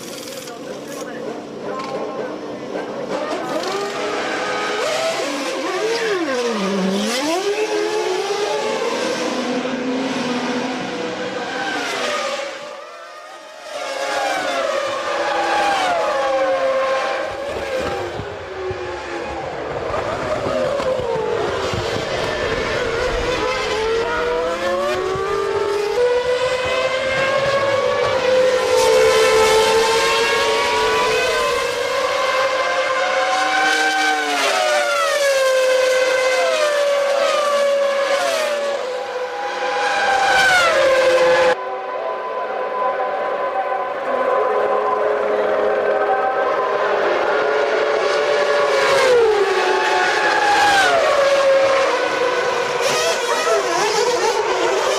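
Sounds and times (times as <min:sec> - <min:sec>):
race car engines revving past: 0:00.8 - 0:54.9.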